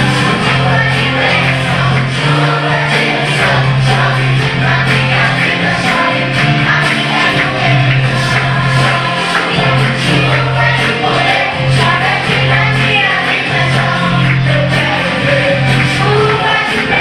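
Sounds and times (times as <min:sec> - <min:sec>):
group singing gospel song: 0:00.0 - 0:17.0
instrumental accompaniment: 0:00.0 - 0:17.0
sustained bass line: 0:00.0 - 0:17.0.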